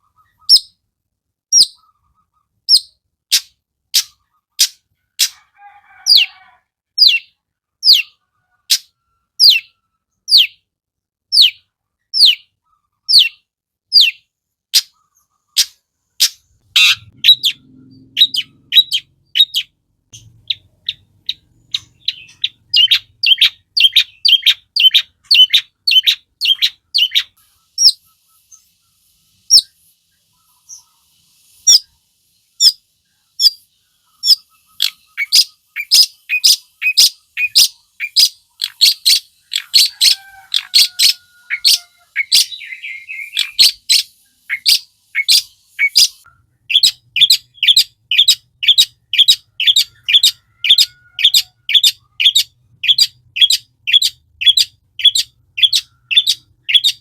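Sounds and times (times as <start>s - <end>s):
bird calling harsh repeated notes: 0.0s - 0.8s, 1.5s - 6.4s, 11.3s - 57.0s.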